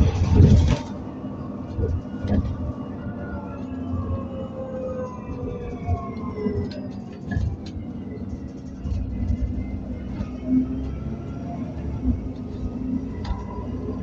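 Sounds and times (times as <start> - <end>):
deep bus engine rumble: 0.0 - 14.0.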